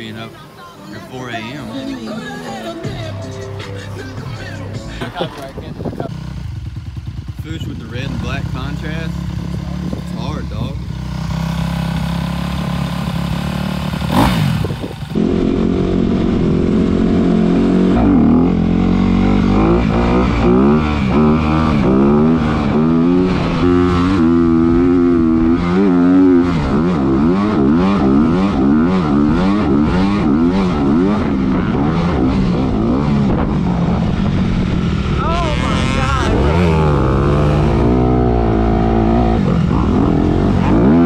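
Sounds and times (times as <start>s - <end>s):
dirt bike engine revving: 0.9s - 41.0s.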